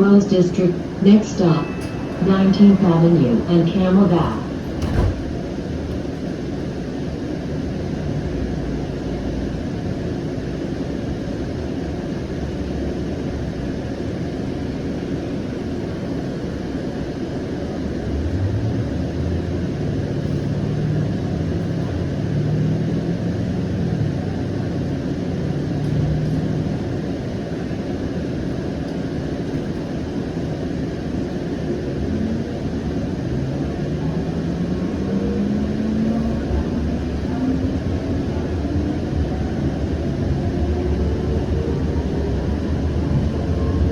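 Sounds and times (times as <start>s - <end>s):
wheels rumbling on rail: 0.0s - 43.9s.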